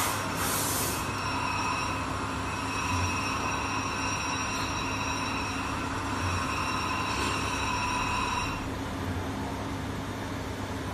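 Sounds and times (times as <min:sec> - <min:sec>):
machine high whine: 0:00.0 - 0:09.3
machine running hum: 0:00.0 - 0:10.9.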